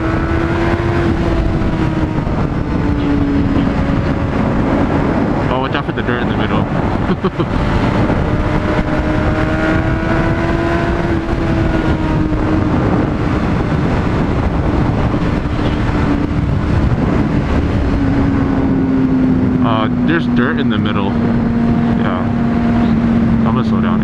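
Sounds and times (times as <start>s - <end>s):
motorcycle engine cruising: 0.0s - 24.0s
wind rush: 0.0s - 24.0s.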